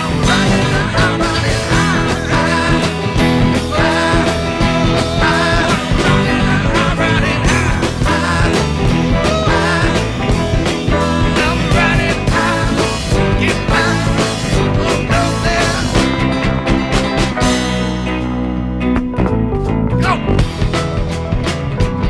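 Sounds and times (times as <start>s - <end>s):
rock music: 0.0s - 22.0s.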